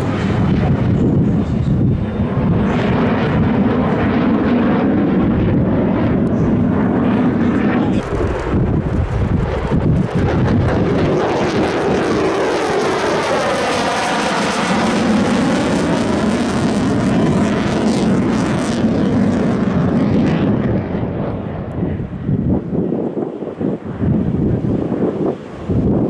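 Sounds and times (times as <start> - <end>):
military aircraft flying past: 0.0 - 26.0.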